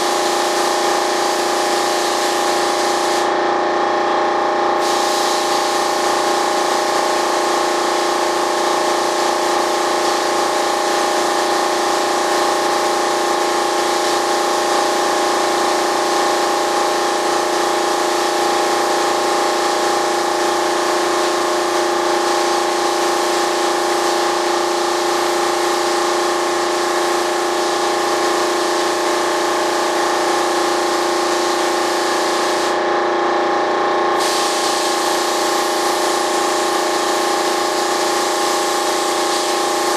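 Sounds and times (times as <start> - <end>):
air spray gun hissing: 0.0 - 3.4, 4.7 - 32.8, 34.2 - 39.9
machine hum with fixed tones: 0.0 - 39.9.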